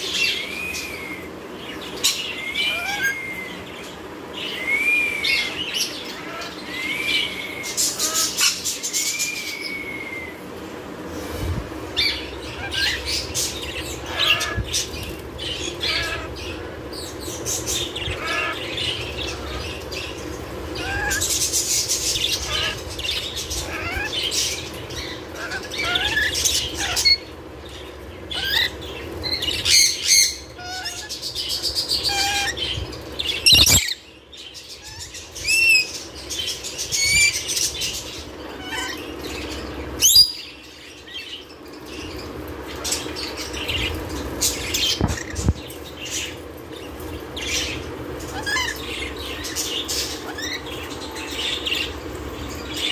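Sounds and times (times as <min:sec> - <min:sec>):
lorikeets chirping and screeching: 0:00.0 - 0:52.9.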